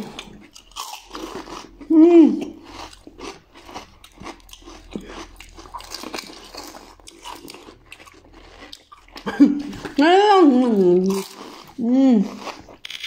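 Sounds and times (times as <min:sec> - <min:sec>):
crisp shells crunching when chewed: 0:00.0 - 0:10.0, 0:10.7 - 0:13.0.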